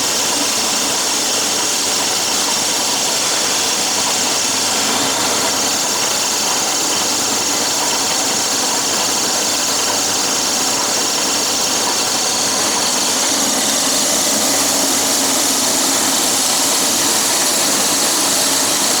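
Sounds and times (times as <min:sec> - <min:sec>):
extruder machine running: 0:00.2 - 0:19.0.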